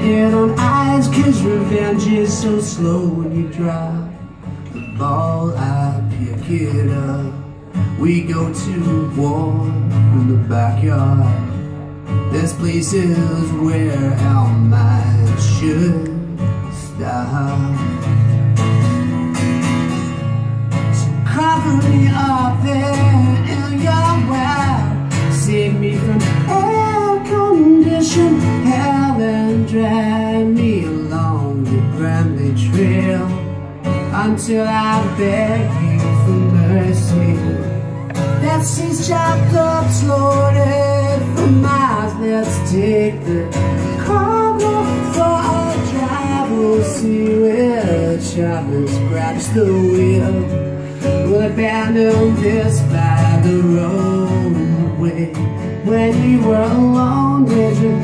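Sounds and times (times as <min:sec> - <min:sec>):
man singing slow song: 0:00.0 - 0:18.4, 0:20.8 - 0:58.0
acoustic guitar: 0:00.0 - 0:58.0.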